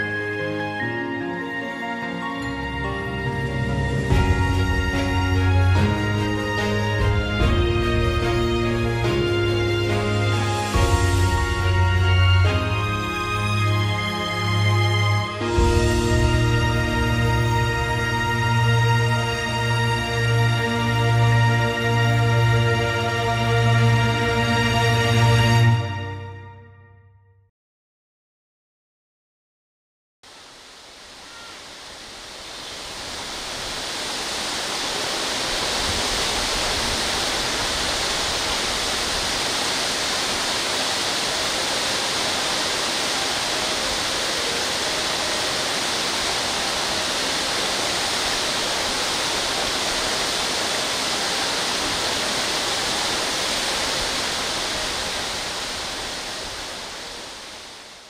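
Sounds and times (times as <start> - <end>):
waterfall rushing: 1.3 - 25.4, 30.3 - 58.0.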